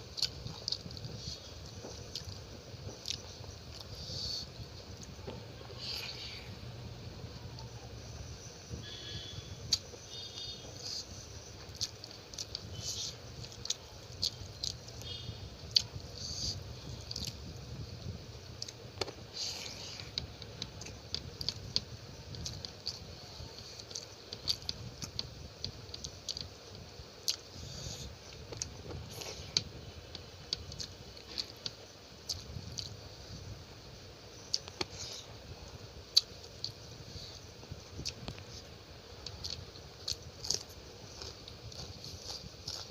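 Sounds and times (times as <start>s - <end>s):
person chewing food: 0.0s - 6.6s, 8.9s - 33.0s, 36.1s - 42.9s.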